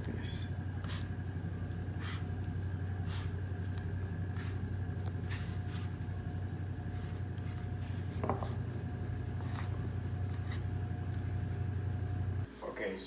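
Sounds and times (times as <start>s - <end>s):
kitchen appliance motor hum: 0.0s - 12.5s.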